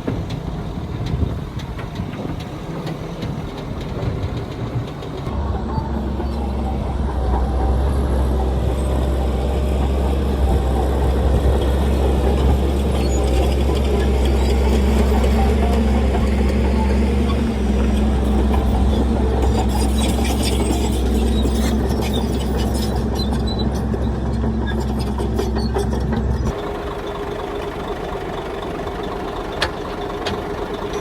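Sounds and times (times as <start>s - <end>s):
heavy diesel engine droning: 0.0s - 31.0s.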